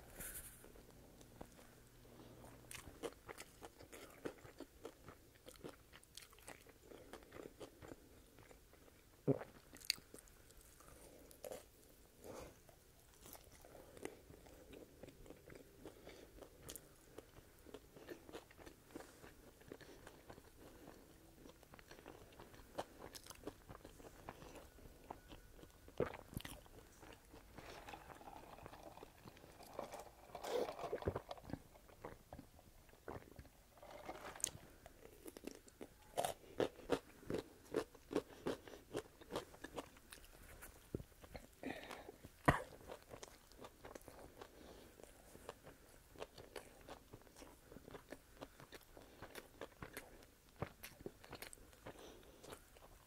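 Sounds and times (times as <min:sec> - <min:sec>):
chewing and crunching sandwich: 0:00.0 - 0:53.0.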